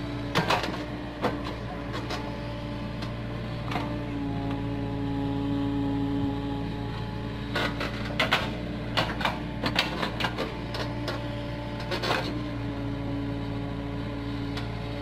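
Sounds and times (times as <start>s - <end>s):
mini excavator running: 0.0s - 15.0s.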